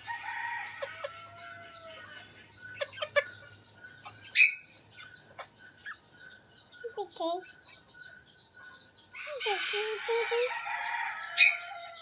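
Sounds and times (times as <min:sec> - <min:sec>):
chickens clucking and squawking: 0:00.0 - 0:12.0
small birds chirping: 0:00.0 - 0:12.0.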